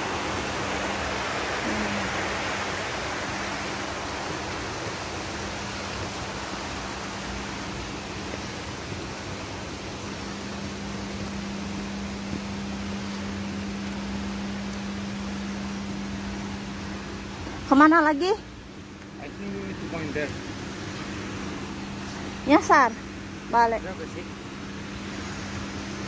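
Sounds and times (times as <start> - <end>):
steady low hum: 0.0 - 26.0
stream rushing over weir: 0.0 - 26.0.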